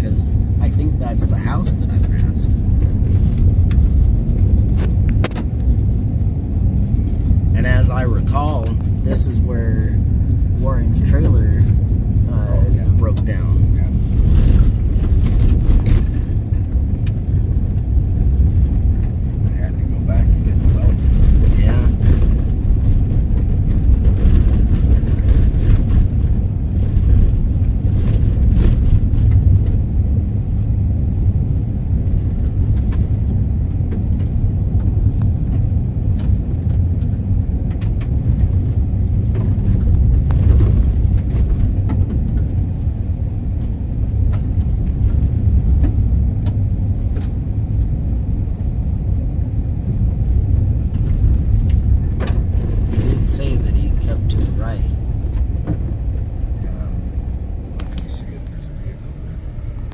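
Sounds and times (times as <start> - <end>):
vehicle rumble from inside cabin: 0.0 - 59.9.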